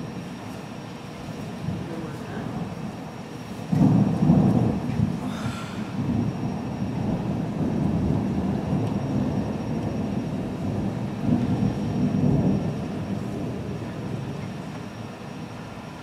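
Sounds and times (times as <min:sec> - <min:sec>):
distant thunder rumbling: 0:01.0 - 0:16.0.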